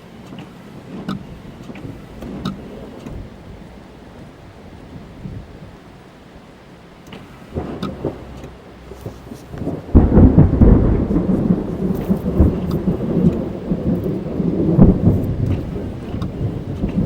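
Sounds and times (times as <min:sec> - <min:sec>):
rain on a car: 0:00.0 - 0:17.0
thunderclap with deep rumble: 0:00.2 - 0:06.5, 0:07.1 - 0:17.0.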